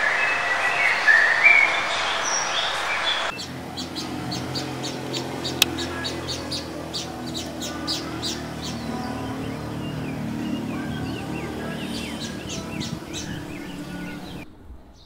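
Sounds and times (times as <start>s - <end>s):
bird rising call: 0.0s - 14.4s
forest background: 0.0s - 15.0s.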